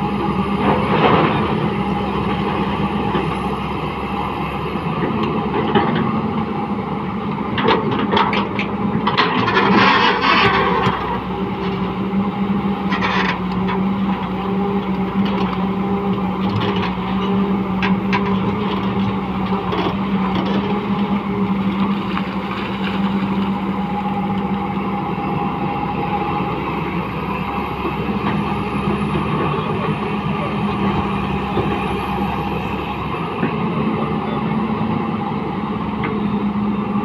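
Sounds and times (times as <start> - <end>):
excavator diesel engine droning: 0.0 - 37.0.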